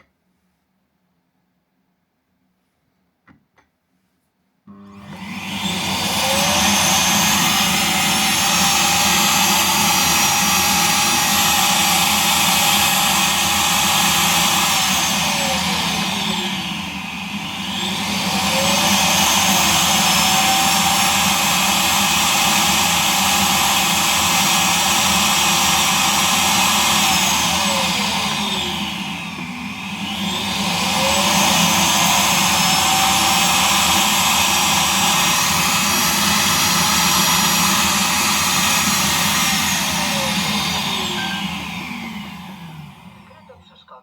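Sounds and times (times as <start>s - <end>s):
vacuum suction motor running: 4.7s - 44.0s.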